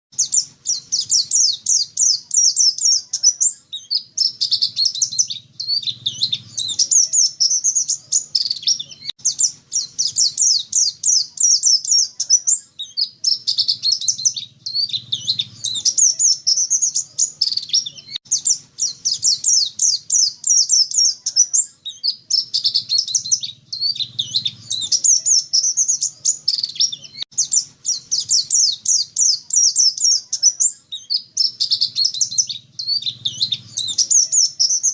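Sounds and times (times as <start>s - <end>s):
bird twittering song: 0.1s - 34.9s.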